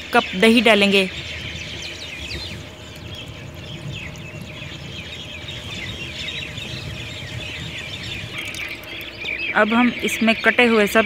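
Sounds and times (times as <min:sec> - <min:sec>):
low steady rumble: 0:00.0 - 0:11.0
small birds chirping rapidly: 0:00.0 - 0:11.0.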